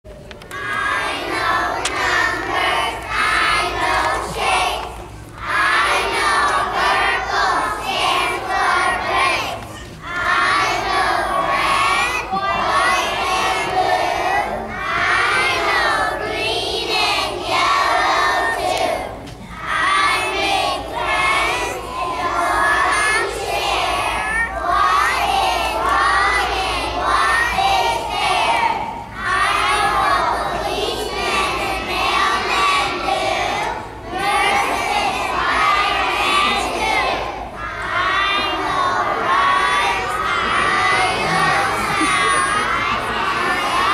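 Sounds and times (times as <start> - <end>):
children singing: 0.4 - 43.9.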